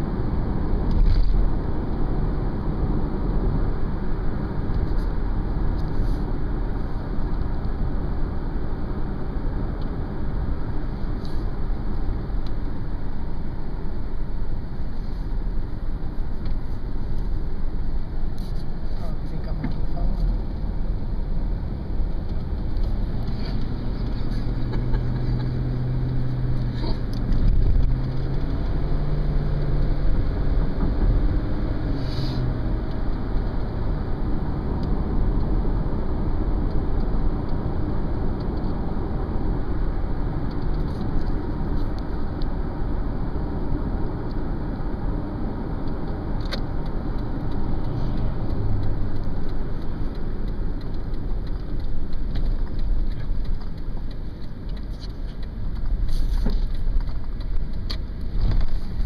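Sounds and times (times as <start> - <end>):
road and engine noise in car: 0.0 - 59.0.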